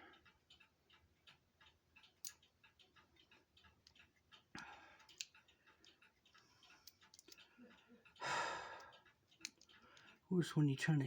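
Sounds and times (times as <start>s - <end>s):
clock ticking faintly: 0.0s - 11.0s.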